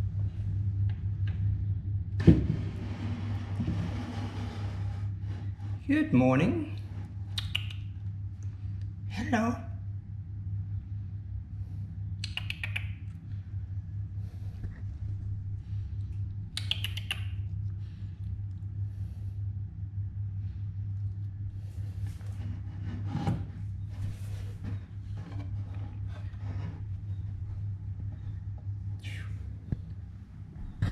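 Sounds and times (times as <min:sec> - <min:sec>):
low hum: 0:00.0 - 0:30.9.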